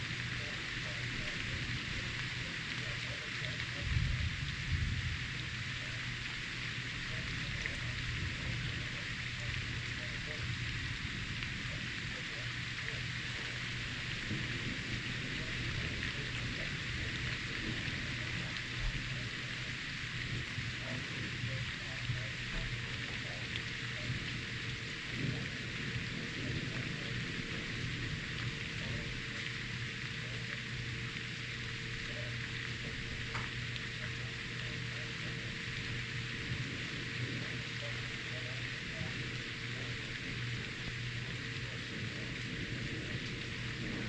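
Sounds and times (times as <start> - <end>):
low hum: 0.0 - 44.0
steady rain falling: 0.0 - 44.0.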